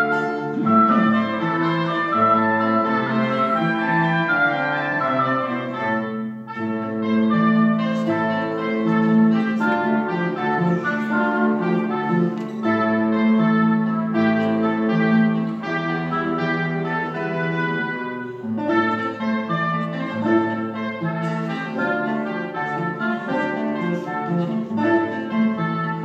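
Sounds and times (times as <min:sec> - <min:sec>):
cello: 0:00.0 - 0:26.0
clarinet melody: 0:00.0 - 0:26.0
classical guitar: 0:00.0 - 0:26.0.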